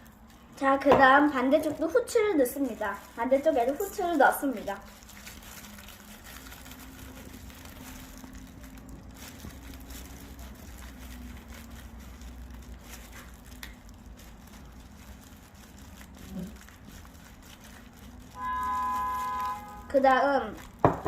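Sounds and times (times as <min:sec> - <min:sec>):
pepper grinder crackle: 0:01.3 - 0:21.0.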